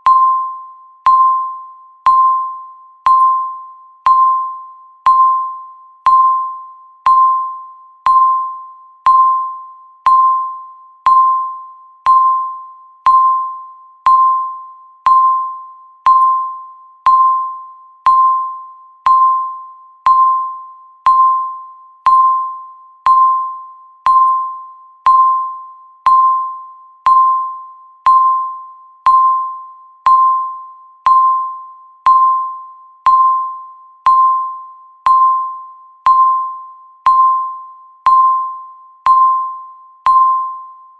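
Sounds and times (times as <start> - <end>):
timer beeps: 0.0 - 40.9.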